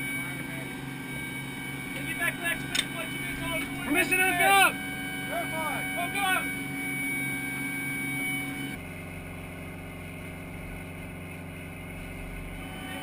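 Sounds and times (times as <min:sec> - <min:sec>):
heavy vehicle engine humming: 0:00.0 - 0:13.0.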